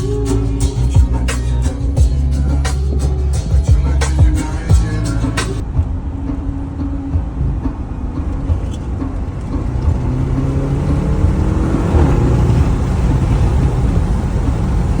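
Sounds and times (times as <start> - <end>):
car engine accelerating: 0.0 - 15.0
road rumble: 0.0 - 15.0.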